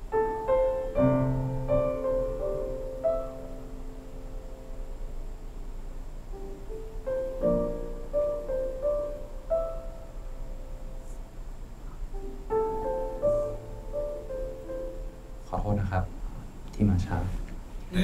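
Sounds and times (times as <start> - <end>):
piano slow melody: 0.0 - 16.6.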